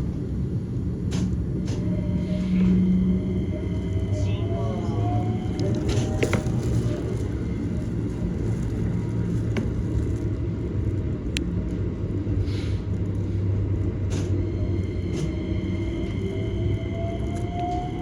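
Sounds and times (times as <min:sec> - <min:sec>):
train low rumble: 0:00.0 - 0:18.0
train whine: 0:00.0 - 0:18.0.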